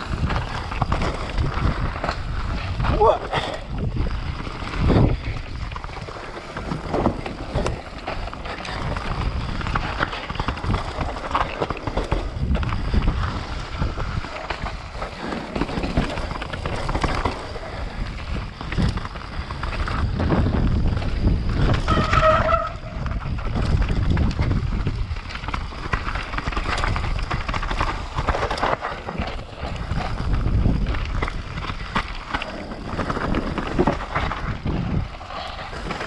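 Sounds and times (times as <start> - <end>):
bike rattling and knocking: 0.0 - 36.0
bike tyres over roots and rocks: 0.0 - 36.0
wind buffeting microphone: 0.0 - 36.0.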